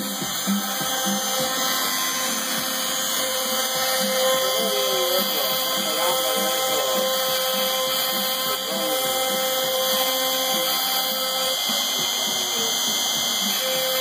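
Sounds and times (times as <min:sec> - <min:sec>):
router spindle whine: 0:00.0 - 0:14.0
steady tone: 0:00.0 - 0:14.0.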